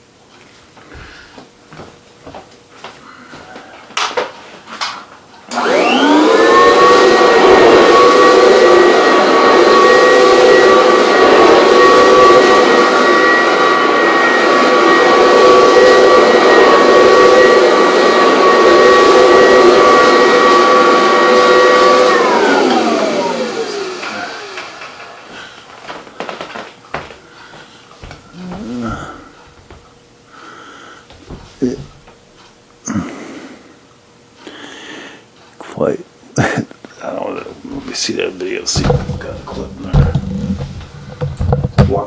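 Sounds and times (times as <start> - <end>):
vacuum cleaner motor whine: 2.3 - 33.9, 37.0 - 42.0.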